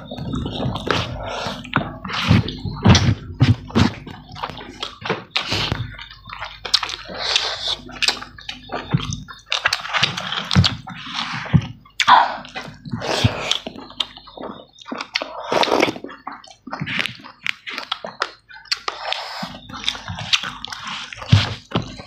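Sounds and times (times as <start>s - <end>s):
people chewing wetly: 0.0s - 22.0s.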